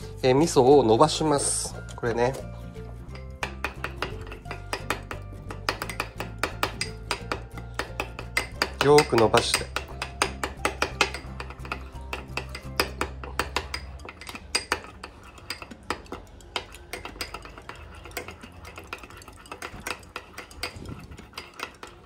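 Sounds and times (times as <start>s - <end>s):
utensil scraping and clicking in bowl: 1.1s - 22.0s.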